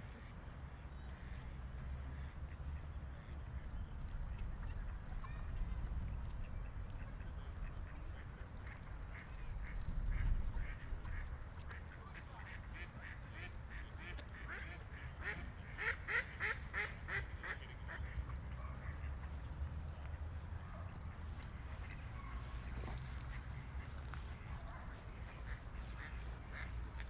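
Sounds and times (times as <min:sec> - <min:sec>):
ducks quacking: 0:04.3 - 0:27.0.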